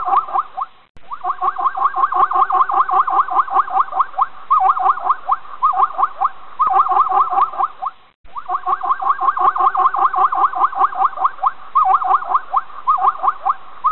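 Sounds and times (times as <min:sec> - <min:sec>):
zebra barking yelps: 0:00.0 - 0:13.9.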